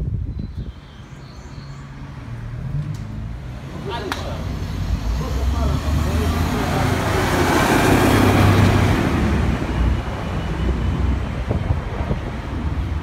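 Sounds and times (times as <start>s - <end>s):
low rumble of traffic: 0.0s - 13.0s
vehicle passing close by: 1.8s - 13.0s.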